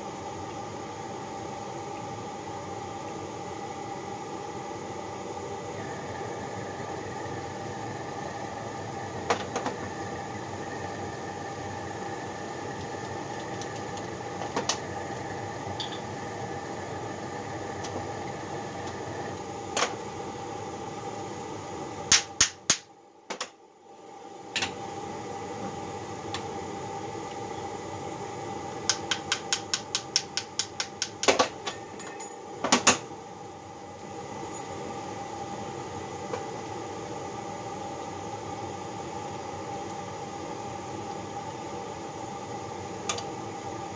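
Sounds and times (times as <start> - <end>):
shop equipment humming: 0.0 - 43.9.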